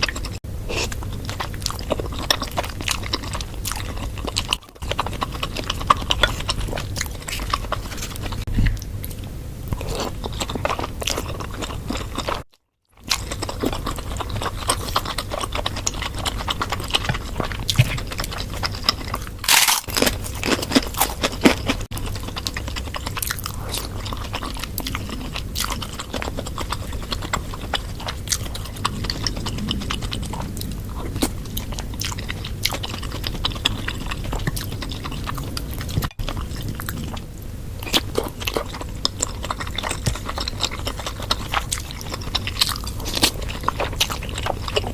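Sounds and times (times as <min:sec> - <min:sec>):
wet chewing and biting: 0:00.0 - 0:37.2, 0:37.8 - 0:44.9.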